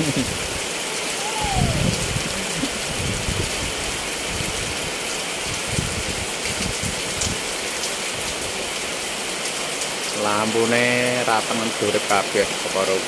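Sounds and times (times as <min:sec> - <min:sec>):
heavy rain on pavement: 0:00.0 - 0:13.0.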